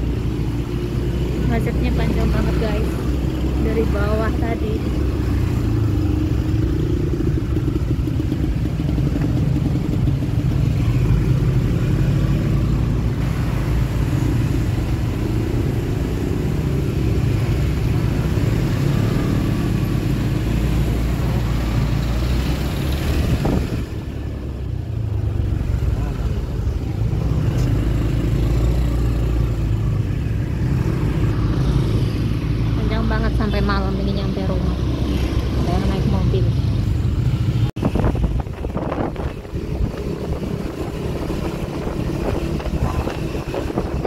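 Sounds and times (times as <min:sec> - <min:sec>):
motorcycle engine running: 0:00.0 - 0:44.0
road and wind noise: 0:00.0 - 0:44.0.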